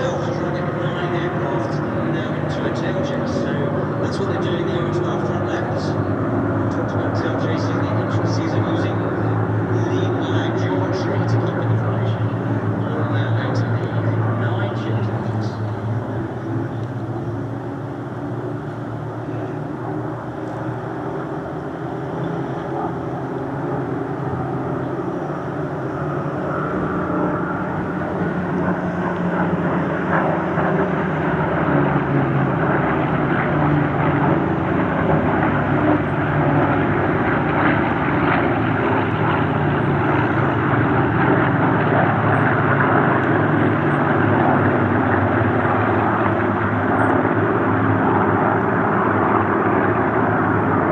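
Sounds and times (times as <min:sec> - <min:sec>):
propeller aircraft engines droning: 0:00.0 - 0:50.9.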